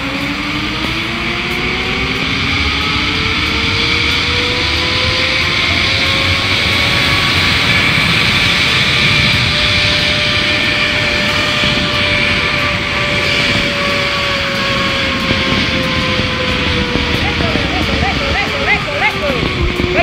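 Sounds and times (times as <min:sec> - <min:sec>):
pulleys whining along cable: 0:00.0 - 0:20.0
wind rushing on microphone: 0:00.0 - 0:20.0.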